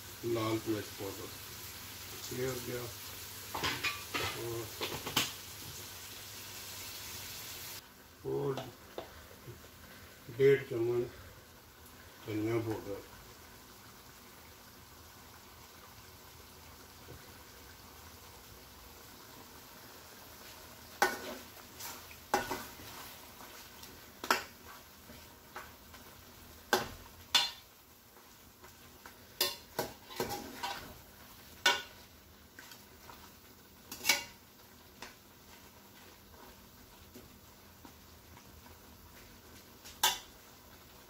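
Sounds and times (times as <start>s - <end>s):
faint sizzle of frying: 0.0s - 41.0s.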